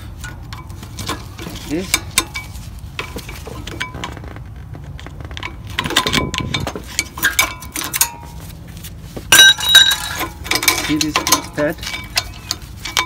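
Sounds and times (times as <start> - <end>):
brake pads clinking and scraping: 0.0 - 13.0.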